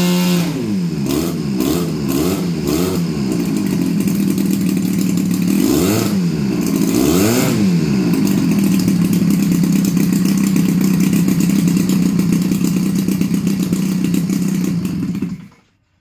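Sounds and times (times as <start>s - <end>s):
model plane gas engine running: 0.0s - 15.6s.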